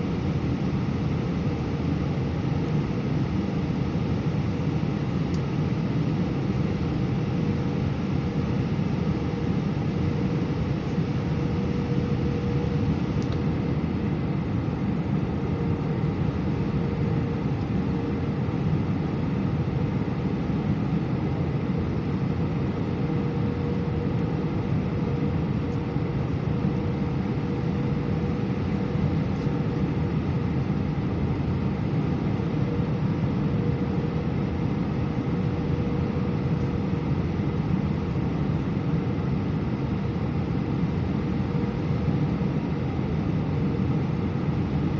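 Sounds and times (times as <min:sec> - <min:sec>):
airliner cabin rumble: 0:00.0 - 0:44.9
faint steady hum: 0:00.0 - 0:44.9.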